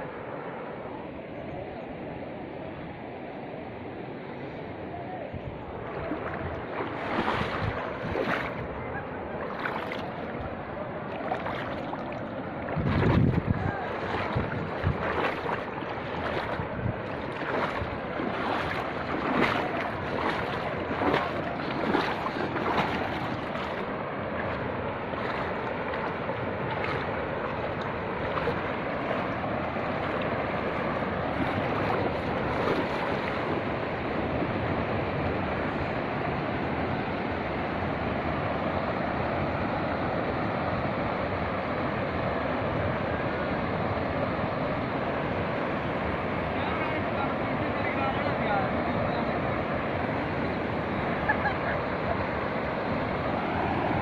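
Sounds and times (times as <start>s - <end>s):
water surges and splashes: 0.0s - 54.0s
floodwater rushing: 4.0s - 54.0s.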